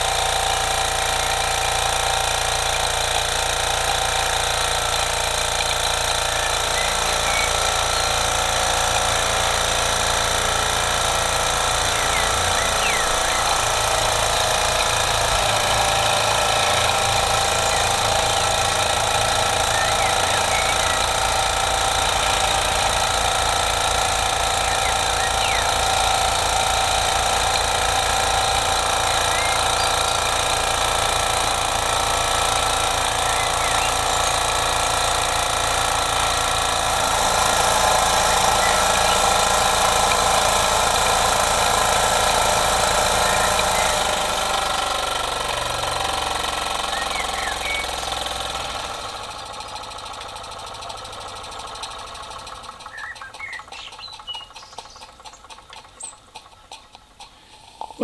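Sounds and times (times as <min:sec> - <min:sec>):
model steam engine chattering: 0:00.0 - 0:58.0.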